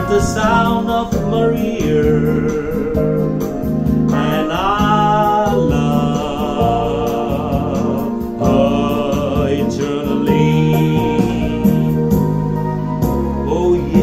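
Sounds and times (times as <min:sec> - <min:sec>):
man singing held notes: 0:00.0 - 0:12.2, 0:13.4 - 0:14.0
electronic keyboard chords: 0:00.0 - 0:14.0.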